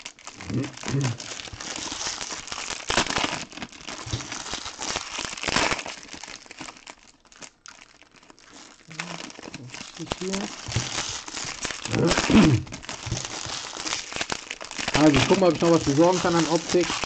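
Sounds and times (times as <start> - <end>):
foil packs torn and crinkled: 0.0 - 17.0.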